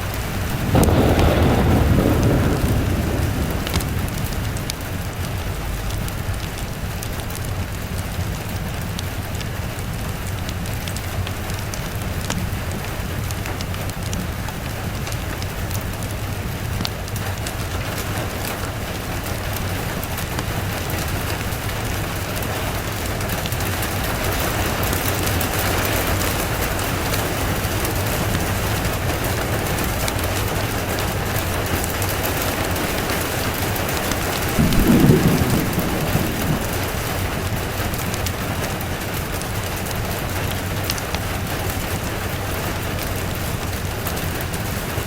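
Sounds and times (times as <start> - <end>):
low rumble of thunder: 0.0 - 45.0
steady rain falling: 0.0 - 45.0.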